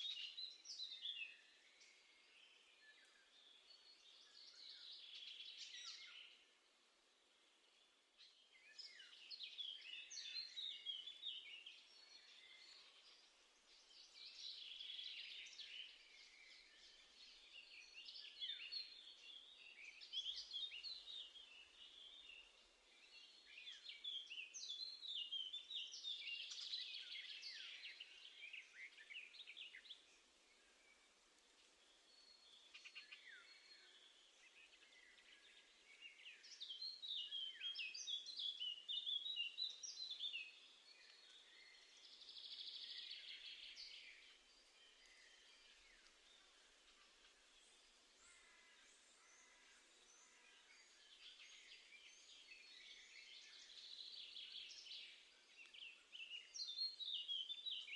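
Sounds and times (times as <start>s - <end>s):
songbirds chirping: 0.0s - 57.9s.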